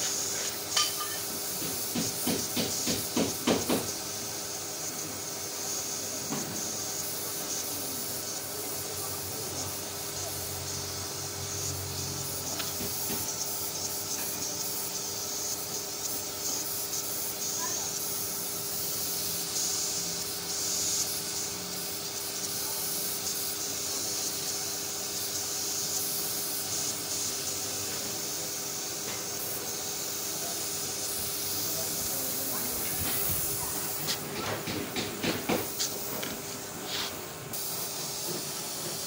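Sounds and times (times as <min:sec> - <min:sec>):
paint spray gun hissing: 0:00.0 - 0:39.0.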